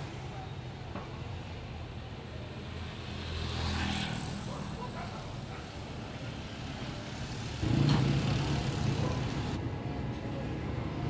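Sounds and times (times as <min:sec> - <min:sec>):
street traffic engine rumble: 0:00.0 - 0:11.0.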